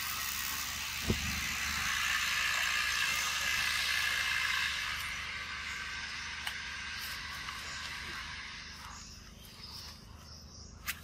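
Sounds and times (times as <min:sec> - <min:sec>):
high outdoor hiss: 0:00.0 - 0:11.0.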